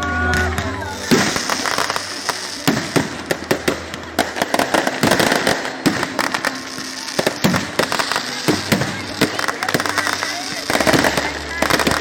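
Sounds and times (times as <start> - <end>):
fireworks bangs and pops: 0.1 - 12.0
crackling hiss: 0.5 - 12.0.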